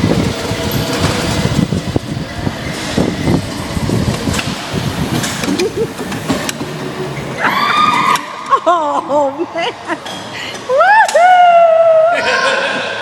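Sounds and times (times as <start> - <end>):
go-kart engines rumbling: 0.0 - 13.0.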